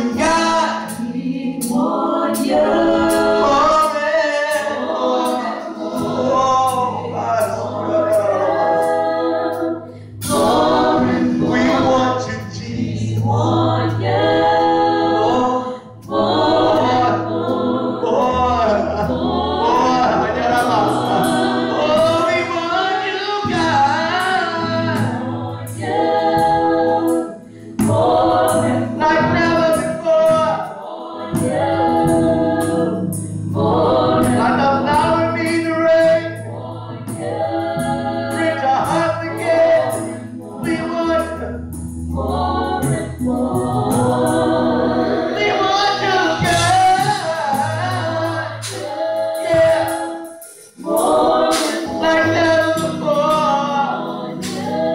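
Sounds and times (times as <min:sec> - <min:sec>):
low keyboard notes: 0:00.0 - 0:54.9
women singing gospel: 0:00.0 - 0:54.9.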